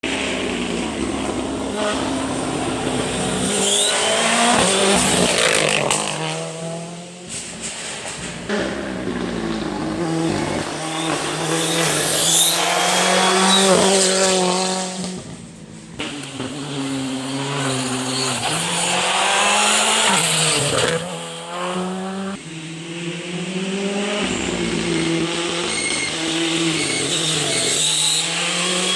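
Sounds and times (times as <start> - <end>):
rally car engine at full throttle: 0.0 - 28.9.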